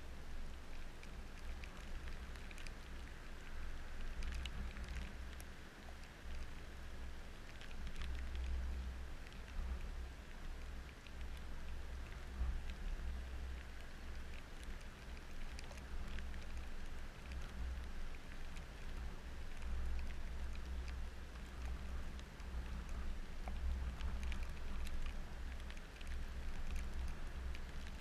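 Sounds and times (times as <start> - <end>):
rain drops ticking: 0.0 - 28.0.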